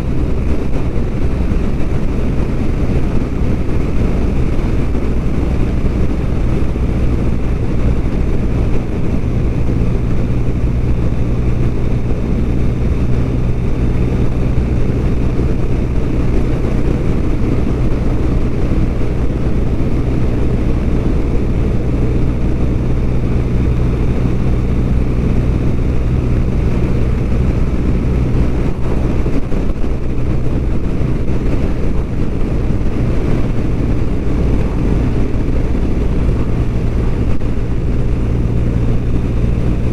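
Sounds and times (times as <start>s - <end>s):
motorcycle engine droning: 0.0s - 39.9s
wind noise: 0.0s - 39.9s.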